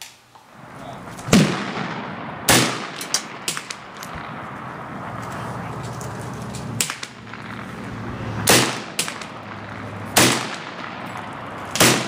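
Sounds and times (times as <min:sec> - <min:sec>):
faint sharp cracks: 0:01.2 - 0:12.0
rifle shots: 0:01.2 - 0:12.0.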